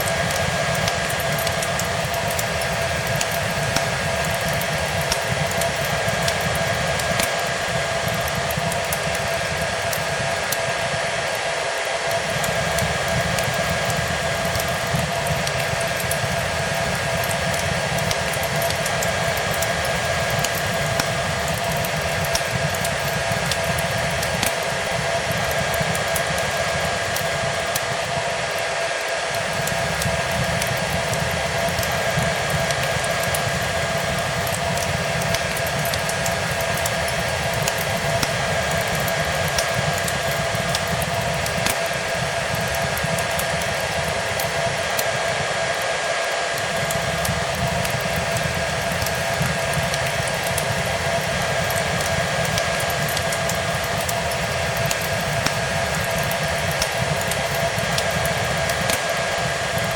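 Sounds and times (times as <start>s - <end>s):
hair dryer blowing: 0.0s - 59.9s
wood fire crackling: 0.0s - 59.9s.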